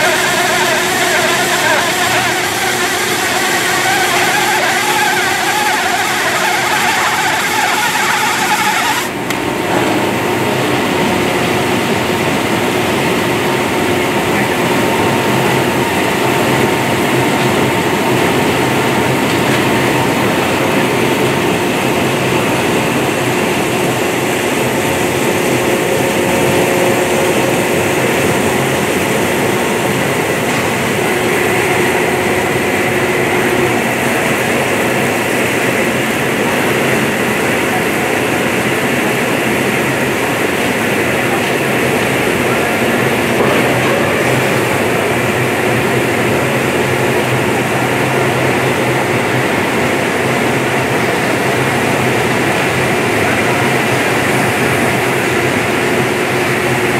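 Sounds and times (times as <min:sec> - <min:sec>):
baler-wrapper machine running: 0:00.0 - 0:11.2, 0:12.9 - 0:56.4.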